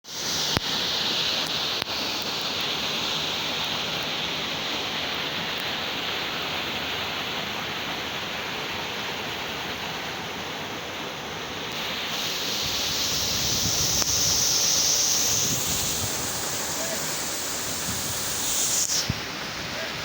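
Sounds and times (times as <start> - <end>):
waterfall rushing: 0.1 - 20.0.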